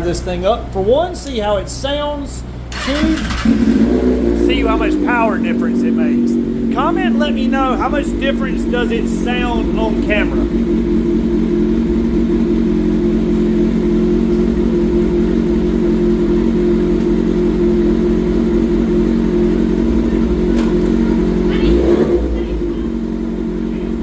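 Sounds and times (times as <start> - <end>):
motorcycle engine running steadily: 2.8 - 24.0.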